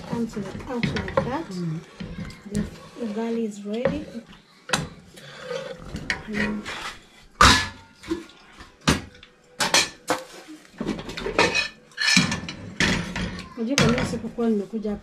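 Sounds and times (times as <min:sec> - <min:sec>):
metal pots and lids clanking: 0:00.0 - 0:14.3.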